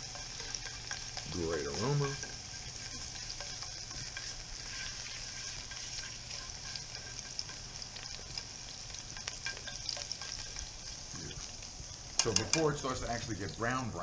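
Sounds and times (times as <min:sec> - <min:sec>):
spatula scraping pan: 0:00.0 - 0:11.6
garlic sizzling in oil: 0:00.0 - 0:14.0.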